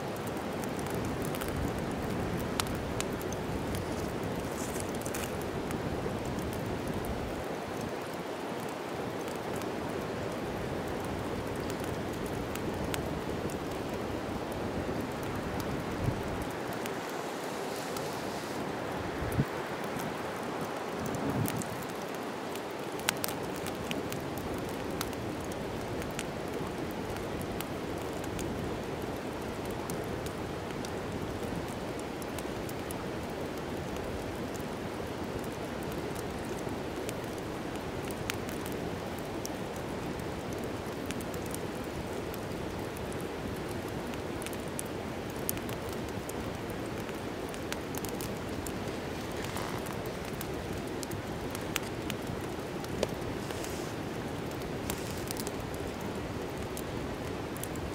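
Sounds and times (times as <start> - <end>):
fire crackles and pops: 0.0 - 57.9
wood fire burning: 0.0 - 57.9.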